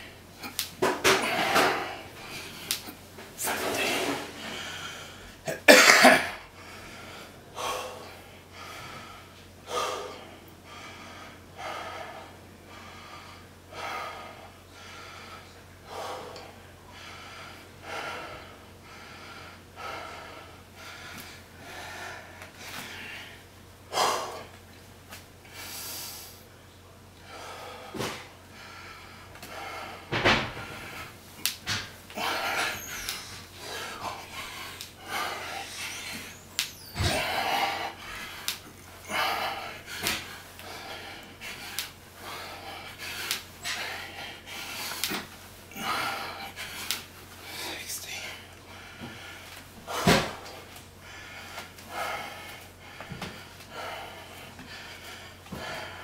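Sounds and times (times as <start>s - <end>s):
man breathing heavily: 0.0s - 5.5s, 6.3s - 24.6s, 25.4s - 26.5s, 27.2s - 56.0s
steady low hum: 0.0s - 56.0s.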